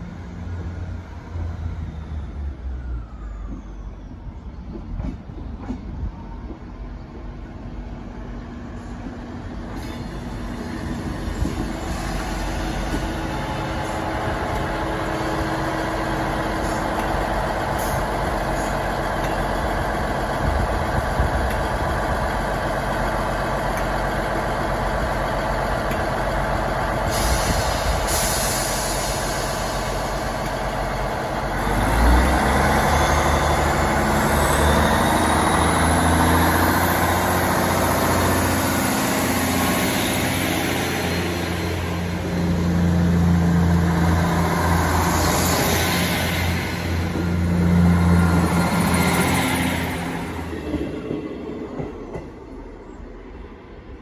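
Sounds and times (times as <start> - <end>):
train diesel engines droning: 0.0 - 54.0.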